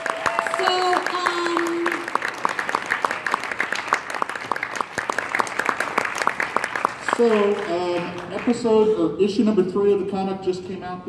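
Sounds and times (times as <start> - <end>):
audience applause: 0.0 - 9.0.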